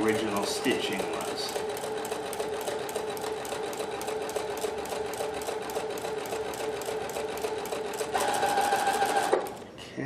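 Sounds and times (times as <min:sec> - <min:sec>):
sewing machine running: 0:00.0 - 0:09.7.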